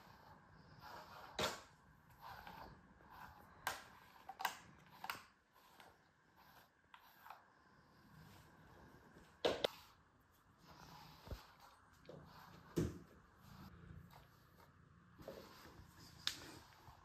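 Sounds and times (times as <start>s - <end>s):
brush stroking through fur: 2.0s - 17.0s.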